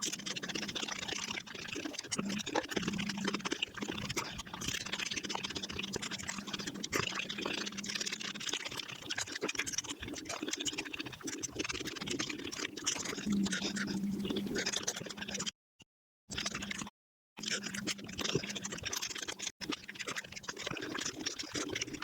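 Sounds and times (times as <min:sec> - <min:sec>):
sped-up chewing sounds: 0:00.0 - 0:15.5, 0:16.3 - 0:22.0.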